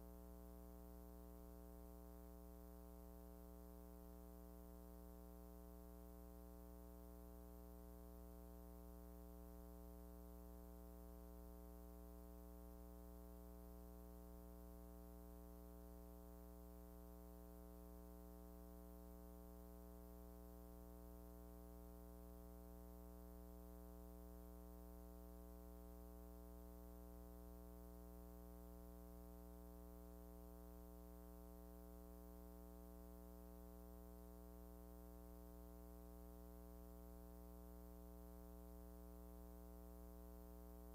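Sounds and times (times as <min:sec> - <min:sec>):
faint electrical hum: 0:00.0 - 0:40.9.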